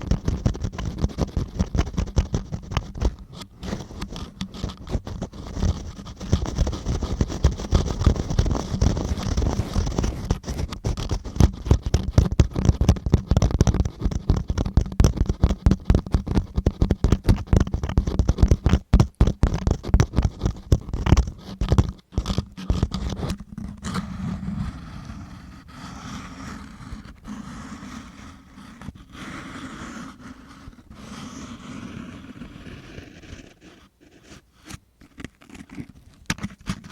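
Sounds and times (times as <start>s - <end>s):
tool scratching on microphone: 0.0s - 36.9s.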